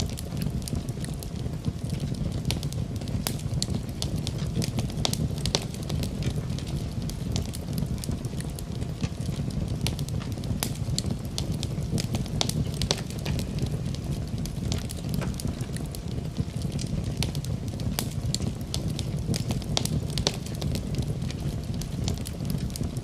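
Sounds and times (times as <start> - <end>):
fire crackling and popping: 0.0 - 23.0
flames rushing: 0.0 - 23.0.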